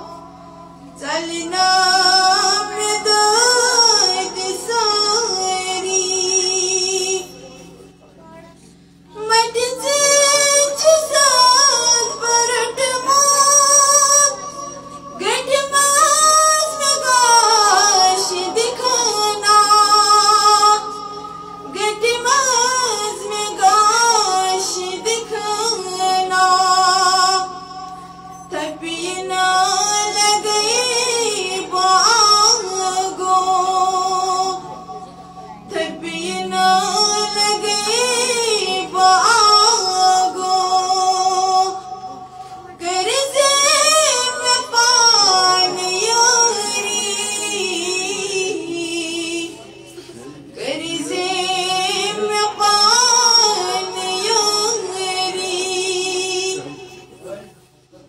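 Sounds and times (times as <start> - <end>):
woman singing: 0.0 - 7.5, 9.1 - 49.8, 50.5 - 56.8.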